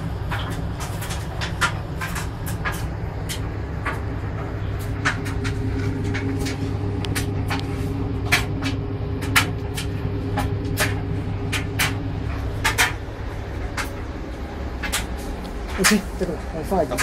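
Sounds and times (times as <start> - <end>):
low mechanical hum: 0.0 - 17.0
sharp clicks and knocks: 0.0 - 17.0.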